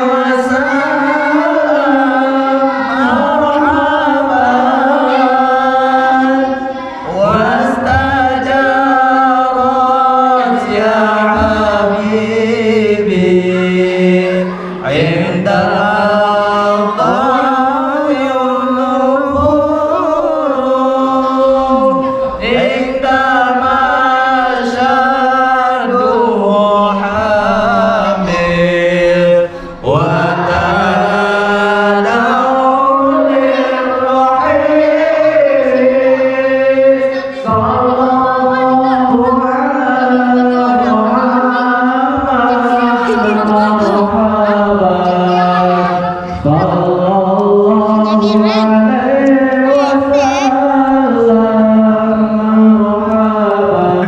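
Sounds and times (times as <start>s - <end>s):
man chanting into a microphone: 0.0s - 54.0s.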